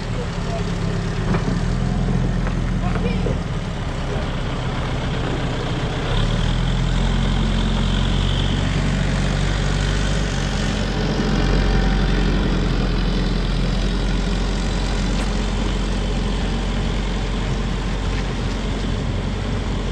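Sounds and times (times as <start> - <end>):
large engine humming steadily: 0.0 - 19.9.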